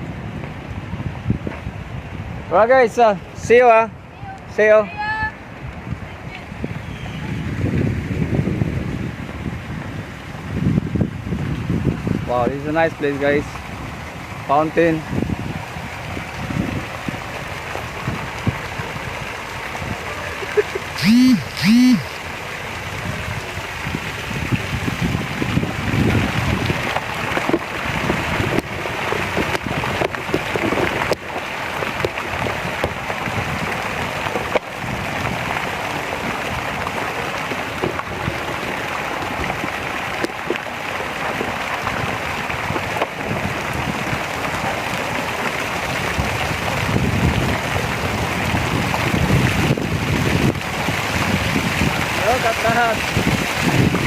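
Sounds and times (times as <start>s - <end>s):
fountain water splashing: 0.0s - 54.0s
wind rumbling on microphone: 0.0s - 54.0s.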